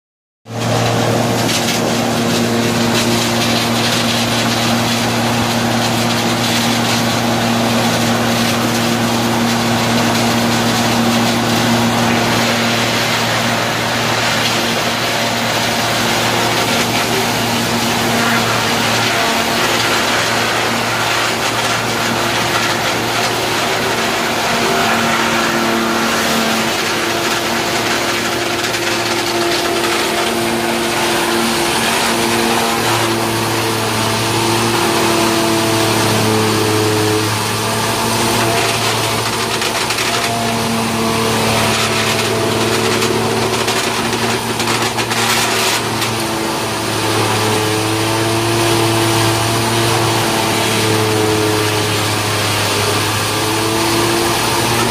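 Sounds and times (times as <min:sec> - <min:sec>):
sawdust machine grinding wood: 0:00.5 - 0:54.9
electric motor hum: 0:00.6 - 0:54.9.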